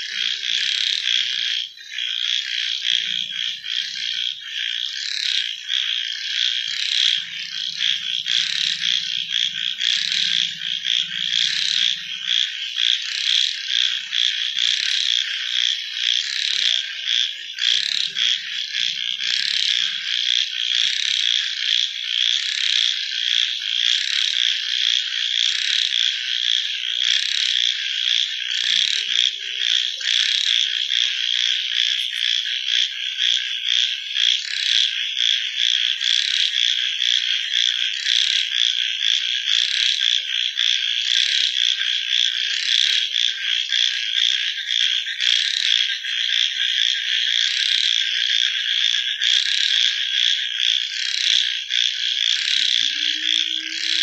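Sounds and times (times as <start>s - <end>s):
frogs calling in chorus: 0.0s - 54.0s
low frog croaks: 0.0s - 54.0s.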